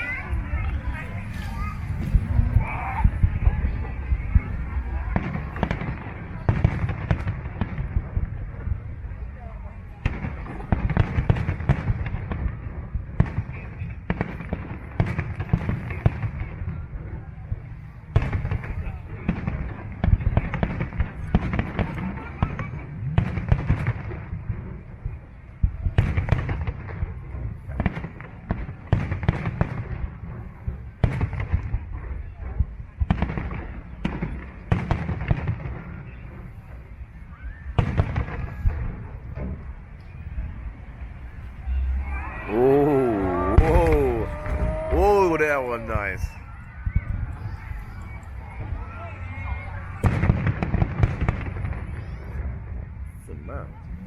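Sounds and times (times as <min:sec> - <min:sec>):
fireworks bangs: 0:00.0 - 0:53.9
low rumble and crackle: 0:00.0 - 0:54.0.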